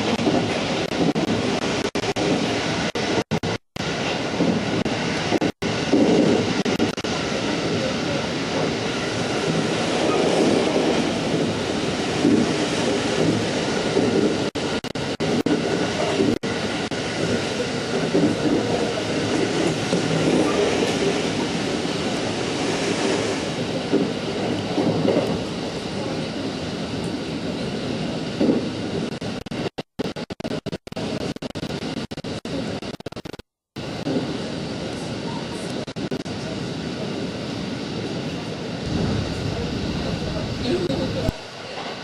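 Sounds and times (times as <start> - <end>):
wheels rumbling on rail: 0.0 - 29.8, 33.8 - 42.0.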